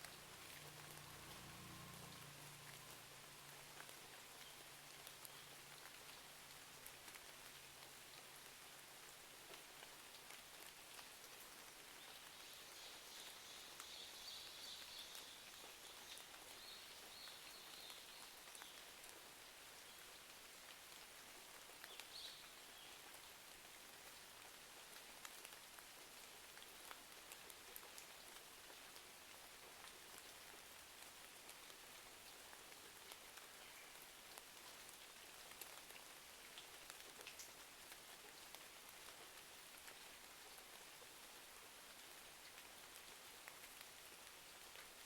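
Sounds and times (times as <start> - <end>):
faint rain: 0.0 - 45.0
small crackles and drips: 0.0 - 45.0.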